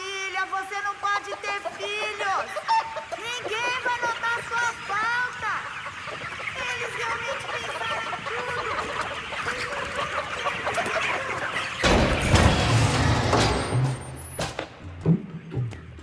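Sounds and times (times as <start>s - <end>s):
chickens clucking and cheeping: 0.0s - 16.0s.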